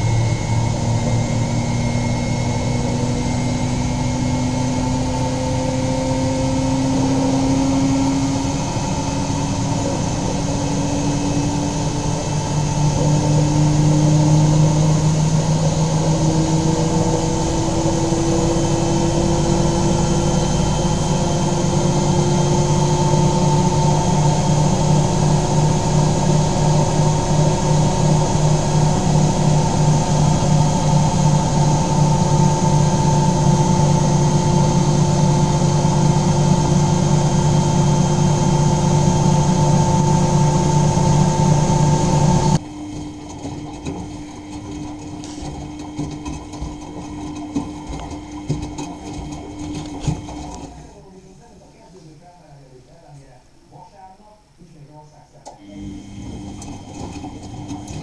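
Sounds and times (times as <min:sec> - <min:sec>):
washing machine motor humming: 0:00.0 - 0:51.7, 0:55.4 - 0:58.0.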